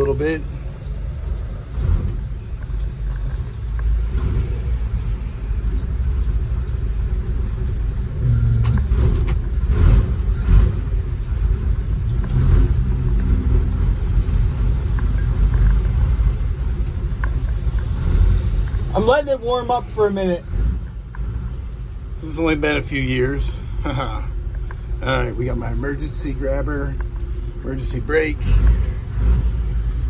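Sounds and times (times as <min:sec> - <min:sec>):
pickup truck engine idling: 0:00.0 - 0:30.0.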